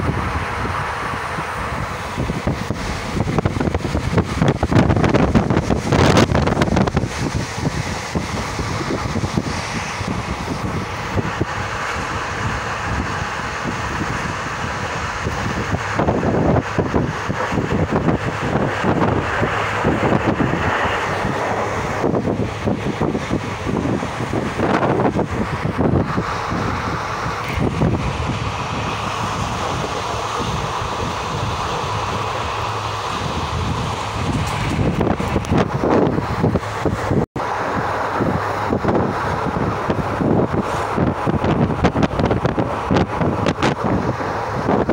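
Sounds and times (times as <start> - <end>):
train rumbling on track: 0.0 - 44.9
wind buffeting microphone: 0.0 - 44.9.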